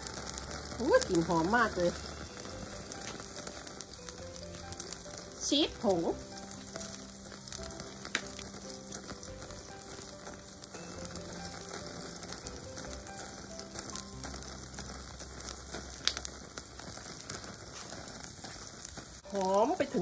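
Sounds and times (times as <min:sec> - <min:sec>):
bones sizzling on a grill: 0:00.0 - 0:20.0
small crackles and pops: 0:00.0 - 0:20.0.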